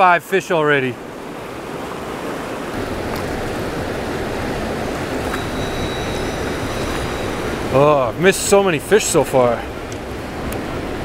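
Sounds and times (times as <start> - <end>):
river rushing over rapids: 0.0 - 11.0.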